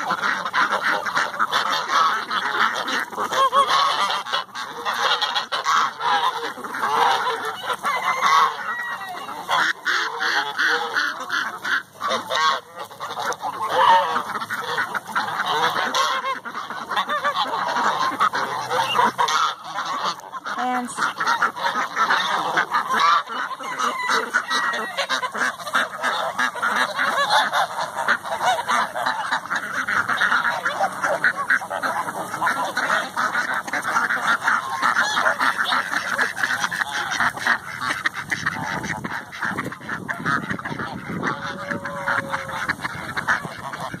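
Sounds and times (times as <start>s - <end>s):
chickens clucking: 0.0s - 44.0s
ducks quacking: 0.0s - 44.0s
geese honking: 0.0s - 44.0s.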